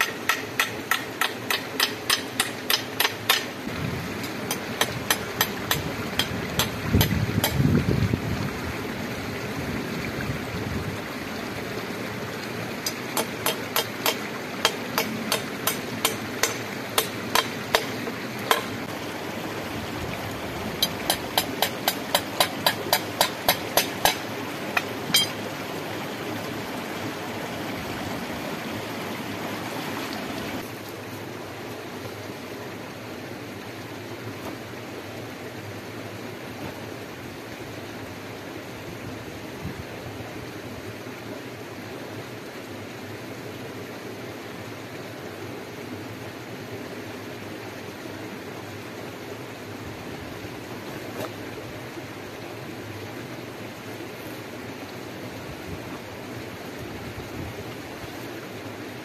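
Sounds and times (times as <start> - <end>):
stream running: 0.0 - 59.0.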